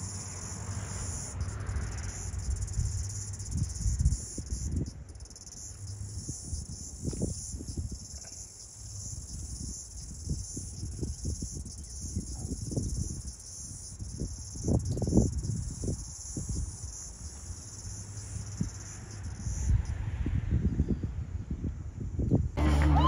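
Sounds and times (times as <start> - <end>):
insects chirring: 0.0 - 20.2.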